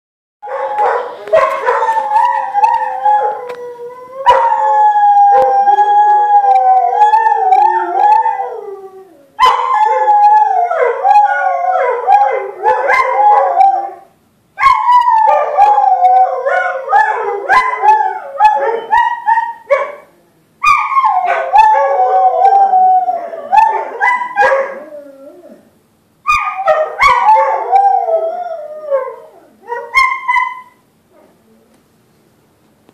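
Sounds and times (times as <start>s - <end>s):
dogs howling: 0.4s - 25.7s, 26.3s - 30.8s.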